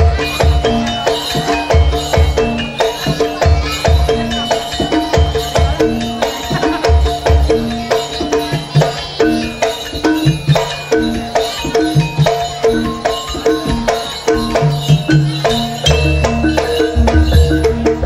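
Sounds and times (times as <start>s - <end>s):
metallic gong-chime notes: 0.0s - 18.0s.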